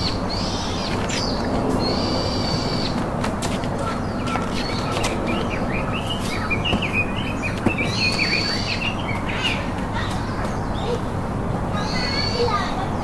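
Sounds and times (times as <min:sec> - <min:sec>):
birds chirping: 0:00.0 - 0:13.0
outdoor background rush: 0:00.0 - 0:13.0.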